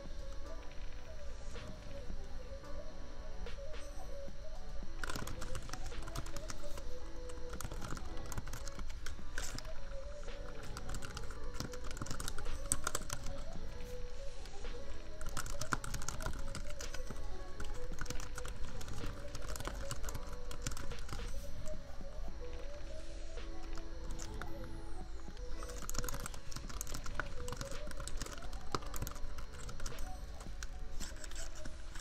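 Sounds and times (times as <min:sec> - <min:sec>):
laptop fan hum: 0:00.0 - 0:32.0
soft lofi music: 0:00.0 - 0:32.0
keyboard typing: 0:05.0 - 0:32.0.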